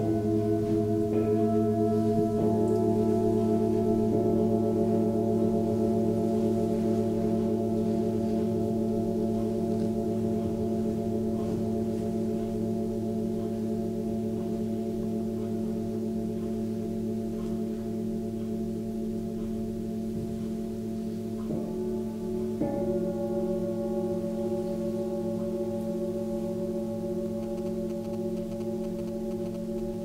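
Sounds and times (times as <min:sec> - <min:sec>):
singing bowls ringing: 0:00.0 - 0:30.0.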